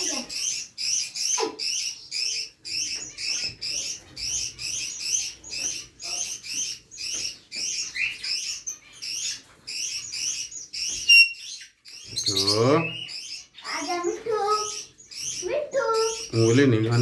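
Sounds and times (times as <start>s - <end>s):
parrot chirping: 0.0s - 17.0s.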